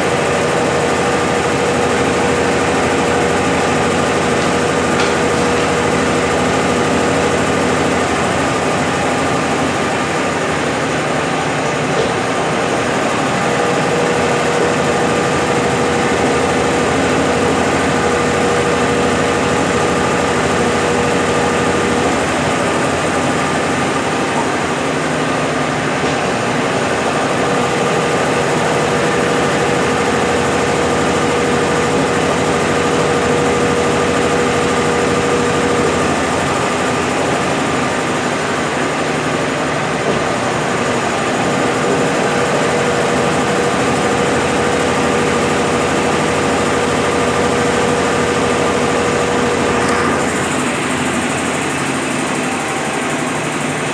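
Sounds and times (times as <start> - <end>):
washing machine spinning hum: 0.0 - 53.9.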